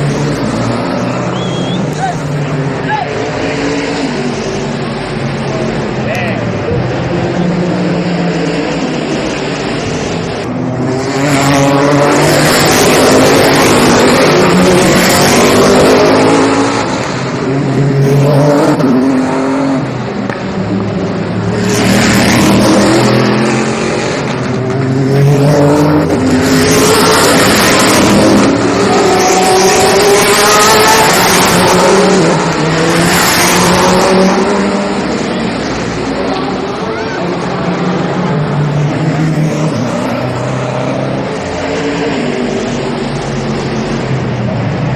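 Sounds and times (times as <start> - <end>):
racing cars accelerating past: 0.0 - 44.9.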